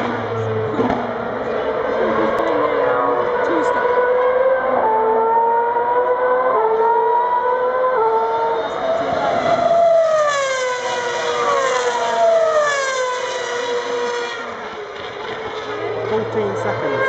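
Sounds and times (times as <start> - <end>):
racing car engines high-revving: 0.0 - 17.0.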